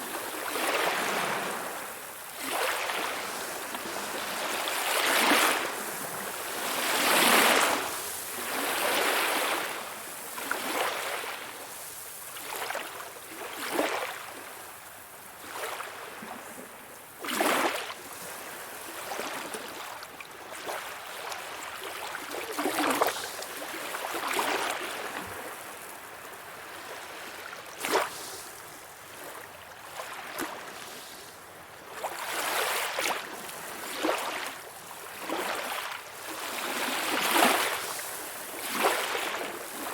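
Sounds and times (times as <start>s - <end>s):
gentle sea waves washing in: 0.0s - 39.9s.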